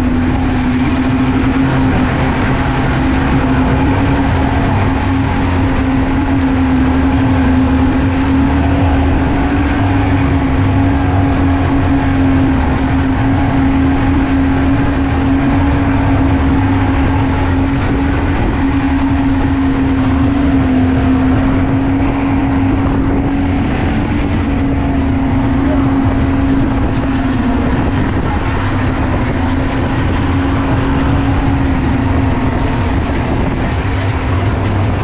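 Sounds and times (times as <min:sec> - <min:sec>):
engine droning: 0:00.0 - 0:32.5.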